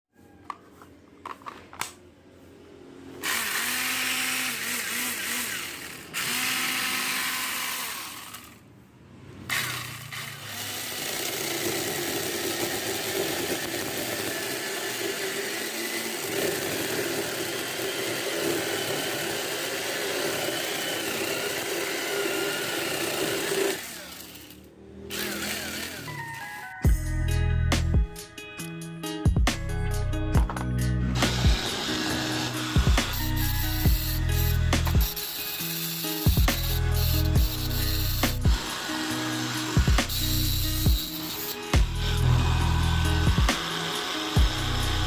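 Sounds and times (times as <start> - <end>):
electric chainsaw whining: 3.2 - 8.7, 9.5 - 26.9, 31.2 - 45.0.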